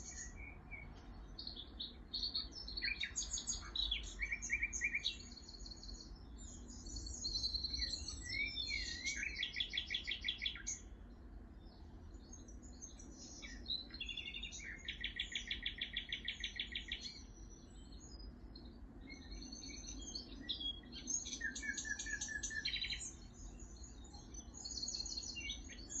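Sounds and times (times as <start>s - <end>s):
wild birds singing and chirping: 0.0s - 26.0s.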